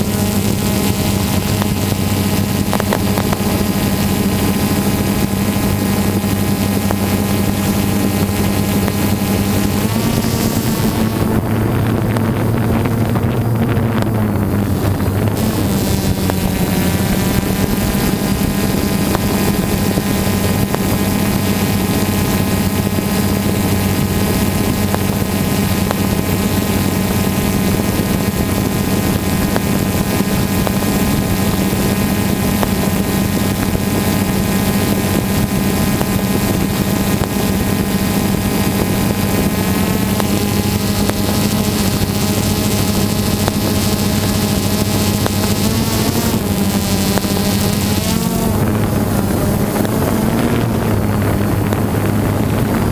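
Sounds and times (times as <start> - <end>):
drone propellers humming: 0.0 - 52.9.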